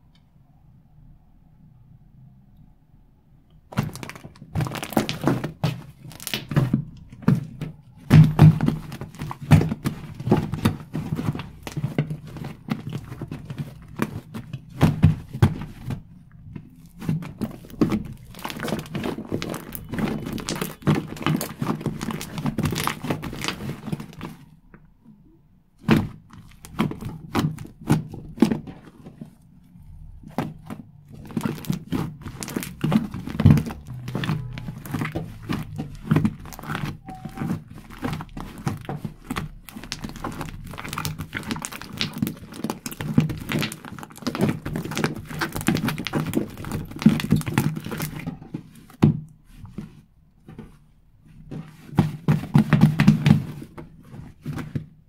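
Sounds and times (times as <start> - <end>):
slime squelching and popping: 3.6 - 50.4.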